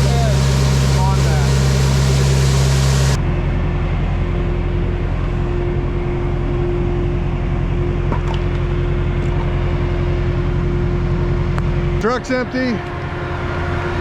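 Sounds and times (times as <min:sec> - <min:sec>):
diesel truck engine droning: 0:00.0 - 0:14.0
steady whine: 0:00.0 - 0:14.0.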